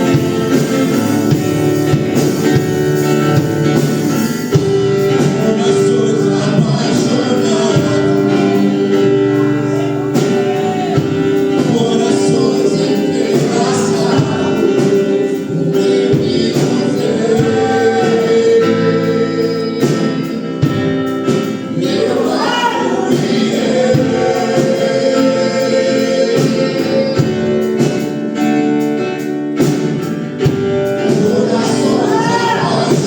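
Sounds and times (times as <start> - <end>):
voices singing gospel with band: 0.0 - 33.0.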